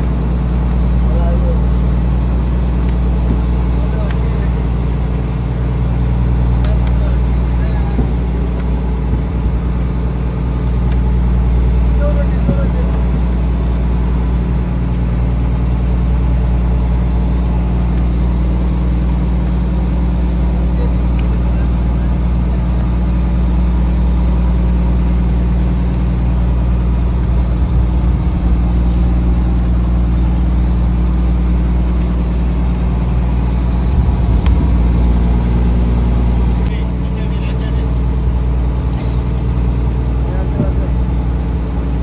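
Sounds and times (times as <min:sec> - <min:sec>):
diesel engine drone: 0:00.0 - 0:42.0.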